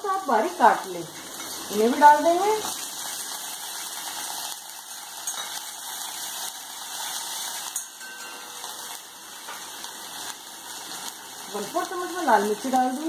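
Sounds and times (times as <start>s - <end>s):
leaves sizzling in hot oil: 0.0s - 13.0s.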